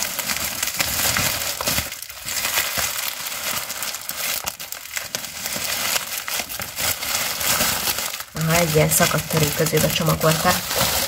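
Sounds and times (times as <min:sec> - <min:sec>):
paper packaging crinkling: 0:00.0 - 0:11.0.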